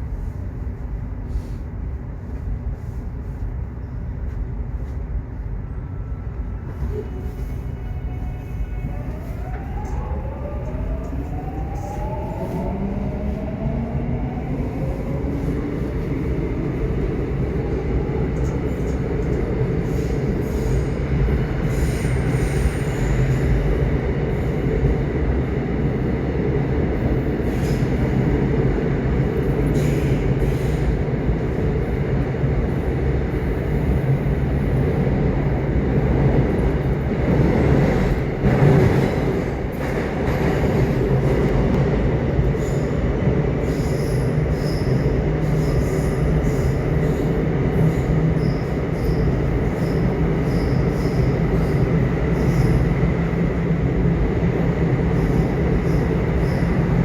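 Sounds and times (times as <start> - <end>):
subway train rumbling on track: 0.0 - 57.0.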